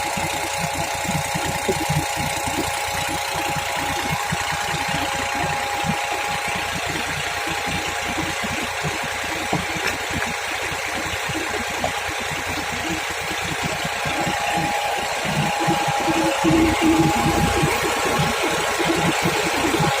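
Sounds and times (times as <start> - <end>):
thin steady tone: 0.0 - 20.0
tractor diesel engine running: 0.0 - 20.0.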